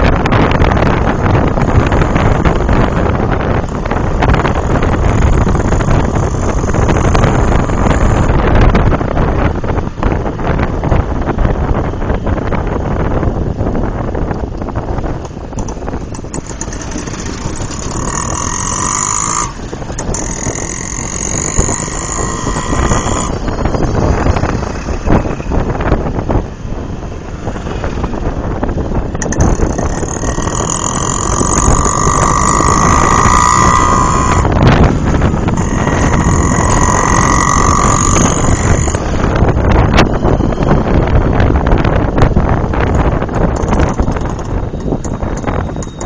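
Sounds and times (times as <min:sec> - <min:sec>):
high whine: 0:00.0 - 0:46.0
motorcycle engine running: 0:00.0 - 0:46.0
road traffic: 0:00.0 - 0:46.0
wind buffeting microphone: 0:00.0 - 0:46.0.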